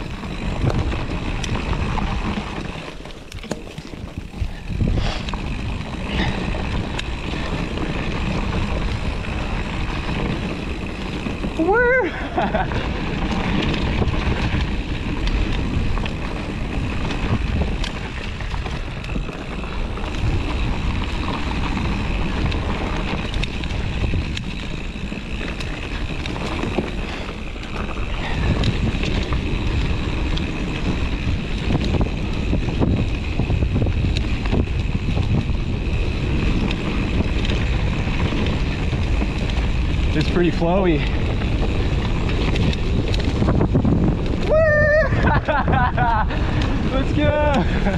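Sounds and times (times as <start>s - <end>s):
mountain bike rumble and rattle: 0.0s - 47.9s
wind on microphone: 3.4s - 47.9s.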